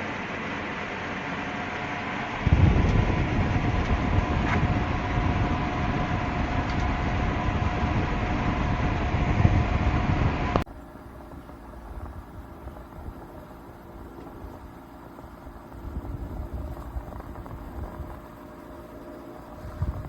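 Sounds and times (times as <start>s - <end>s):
air conditioner fan running: 0.0s - 20.0s
faint steady hum: 0.0s - 20.0s.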